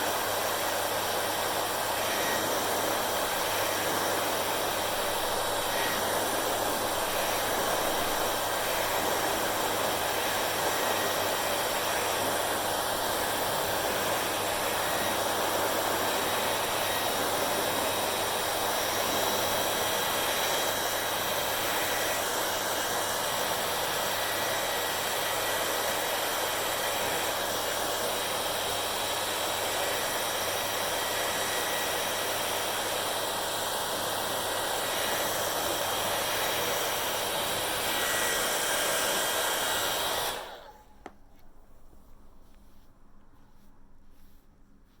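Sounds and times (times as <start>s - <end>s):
hair dryer running: 0.0s - 41.6s.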